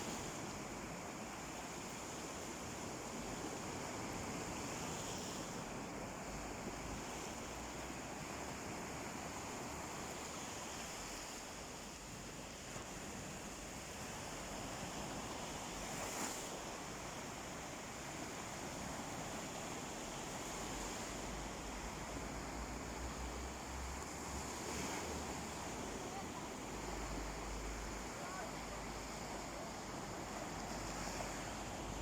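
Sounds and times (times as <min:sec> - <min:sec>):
sea surf washing onto beach: 0:00.0 - 0:32.0.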